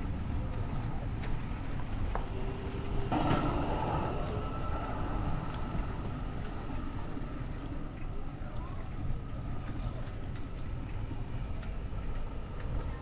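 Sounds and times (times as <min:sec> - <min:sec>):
wind and bicycle rolling noise: 0:00.0 - 0:13.0.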